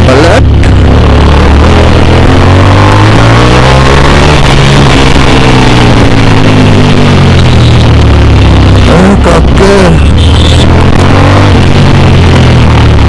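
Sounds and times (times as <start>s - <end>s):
motorcycle engine running: 0.0s - 13.0s
steady rushing noise: 0.0s - 13.0s.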